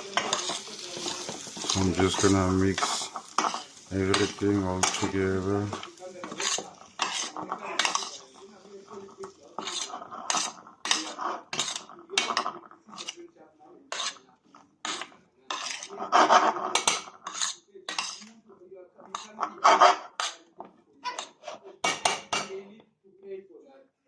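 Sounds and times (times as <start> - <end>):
spoon scraping and clinking pot: 0.0 - 13.2, 13.9 - 18.4, 19.0 - 22.6.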